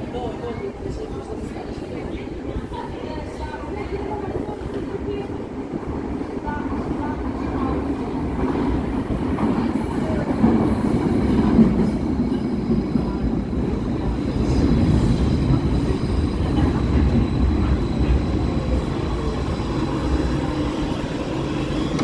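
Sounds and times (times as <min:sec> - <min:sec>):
metro train slowing to a stop: 0:00.0 - 0:22.0.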